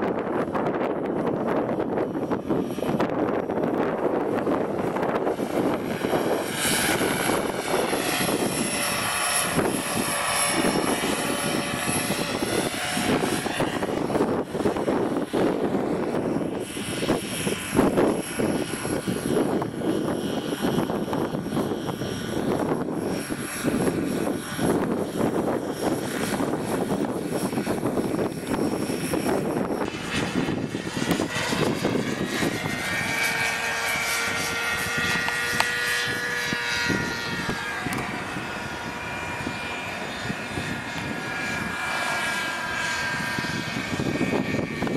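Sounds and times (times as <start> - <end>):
model helicopter rotor whine: 0.0 - 44.9.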